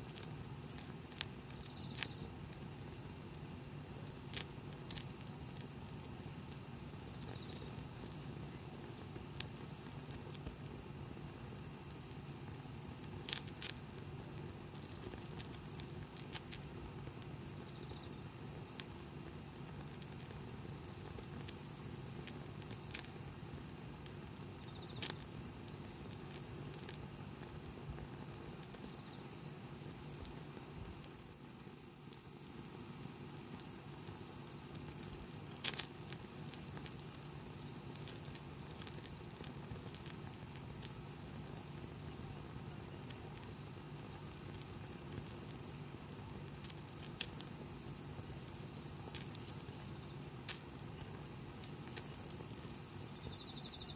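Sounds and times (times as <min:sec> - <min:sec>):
campfire crackling: 0:00.0 - 0:31.8, 0:32.5 - 0:53.2
high thin insect trill: 0:00.0 - 0:53.9.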